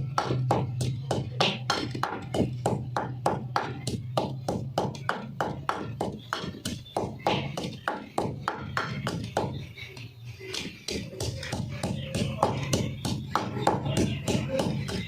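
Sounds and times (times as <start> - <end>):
pounding paste in a mortar: 0.0 - 9.6, 10.5 - 15.0.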